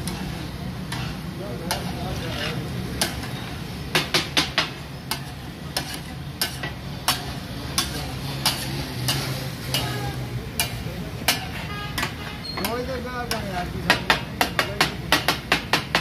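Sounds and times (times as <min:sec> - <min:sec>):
food sizzling: 0:00.0 - 0:15.0
metal spatulas striking griddle: 0:00.0 - 0:16.0.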